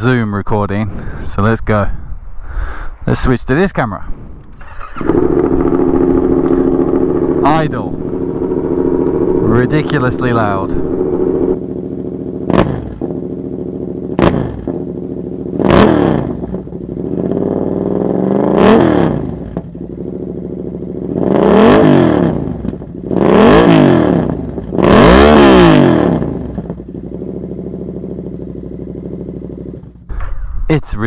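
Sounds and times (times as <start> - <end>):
motorcycle engine revving: 4.5 - 30.6.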